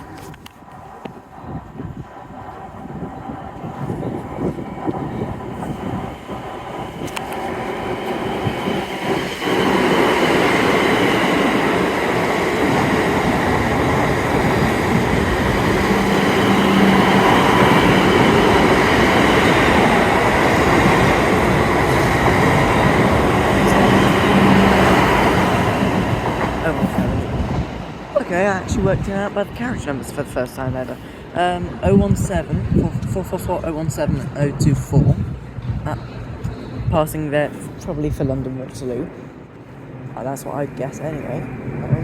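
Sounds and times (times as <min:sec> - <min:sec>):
electric train passing: 0:00.0 - 0:42.0.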